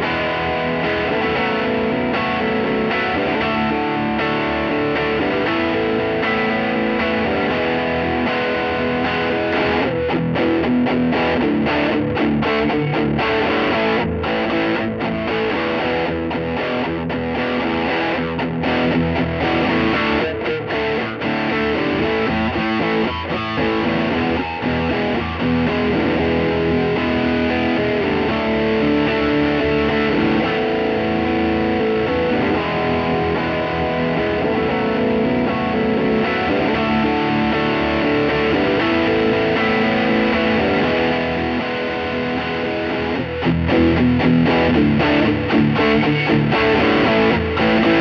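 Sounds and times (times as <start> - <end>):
distorted electric guitar phrase: 0.0 - 48.0.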